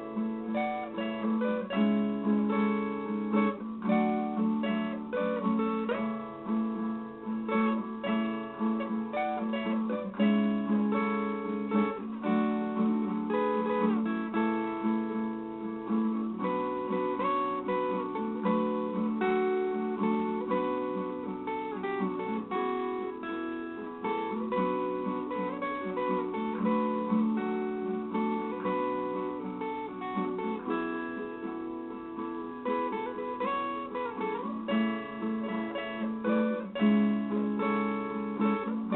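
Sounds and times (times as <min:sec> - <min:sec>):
plucked steel string guitar melody: 0:00.0 - 0:38.9.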